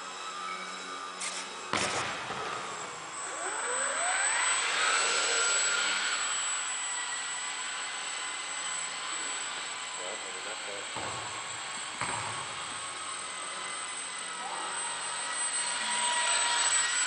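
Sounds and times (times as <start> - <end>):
electric motor and propeller whine: 0.0 - 17.0.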